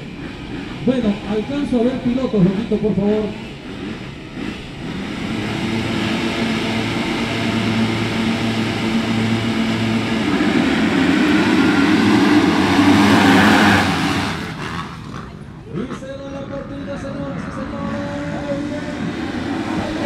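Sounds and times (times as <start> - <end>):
motocross bike engines: 0.0 - 20.0.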